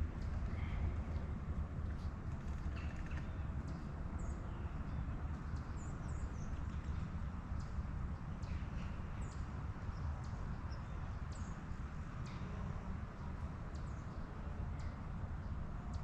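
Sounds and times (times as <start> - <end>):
light breeze: 0.0 - 16.0.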